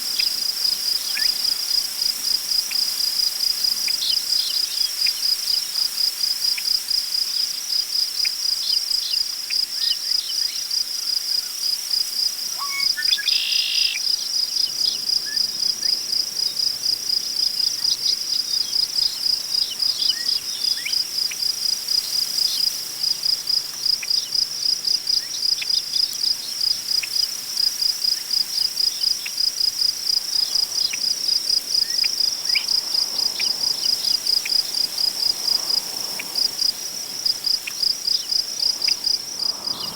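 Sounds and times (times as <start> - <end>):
wind rustling grass: 0.0 - 8.0, 14.8 - 39.9
crickets chirping: 0.0 - 39.9.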